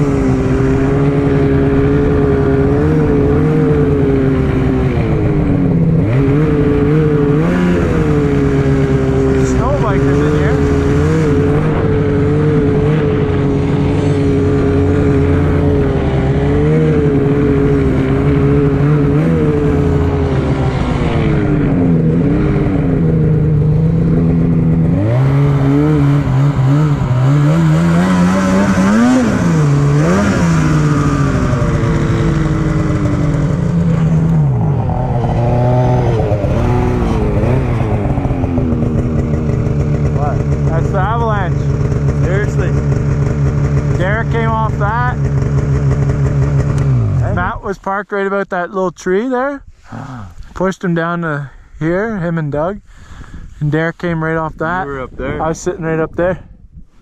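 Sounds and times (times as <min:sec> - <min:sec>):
snowmobile engine revving: 0:00.0 - 0:56.4.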